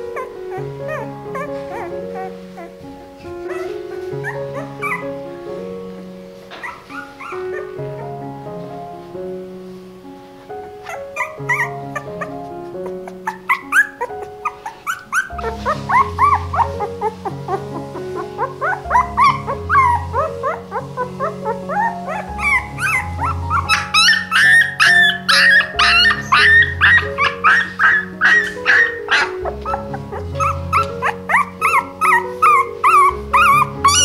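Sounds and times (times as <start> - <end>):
puppy squealing and whimpering: 0.0 - 2.8, 3.5 - 5.2, 6.5 - 8.1, 10.8 - 34.0.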